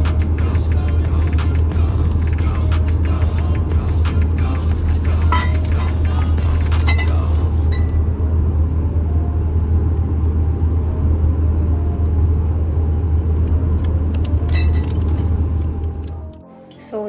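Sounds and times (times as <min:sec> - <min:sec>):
car interior road rumble: 0:00.0 - 0:16.4.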